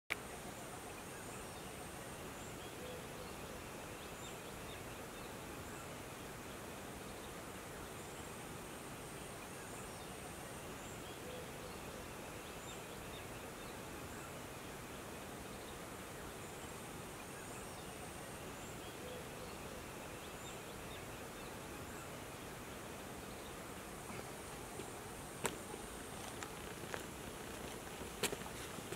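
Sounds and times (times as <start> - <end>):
steady forest hiss: 0.1 - 28.9.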